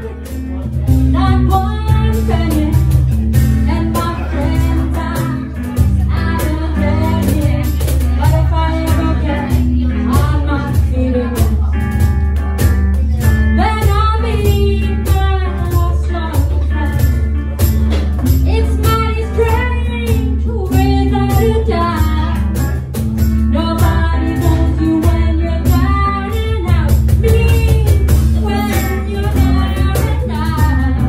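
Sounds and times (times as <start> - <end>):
cajon beat: 0.0 - 31.0
strummed acoustic guitar: 0.0 - 31.0
woman singing: 0.9 - 12.1, 13.2 - 17.6, 18.2 - 22.8, 23.4 - 31.0.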